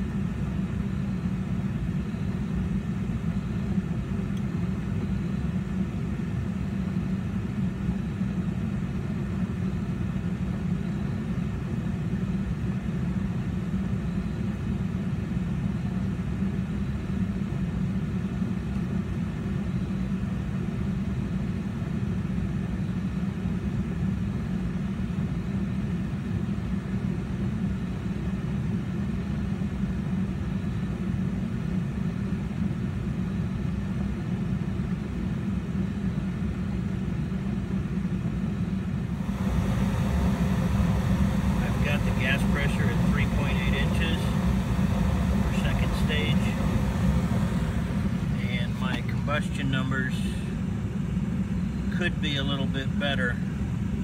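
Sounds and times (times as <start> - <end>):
heating unit humming: 0.0 - 22.4, 24.0 - 54.0.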